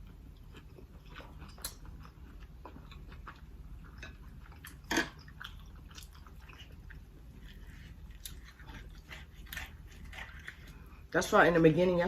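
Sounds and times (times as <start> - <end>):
chewing and mouth smacking: 0.0 - 11.0.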